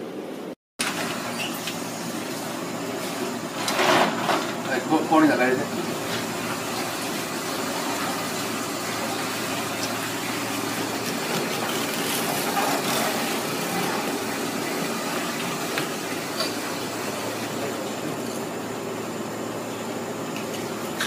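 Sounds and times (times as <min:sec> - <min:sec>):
mechanical hum and hiss: 0:00.0 - 0:21.0.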